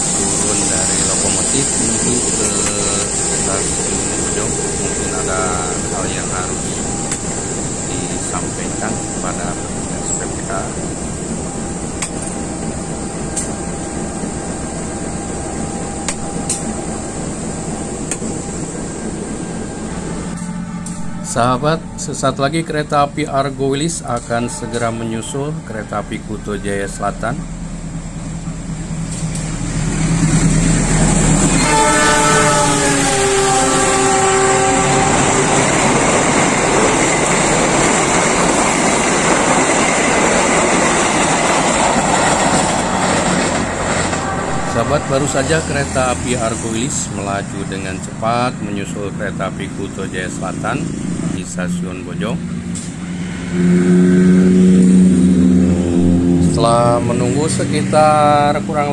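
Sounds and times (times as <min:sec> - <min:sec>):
locomotive idling: 0:00.0 - 0:53.2
train wheels rushing on rail: 0:00.0 - 0:58.9.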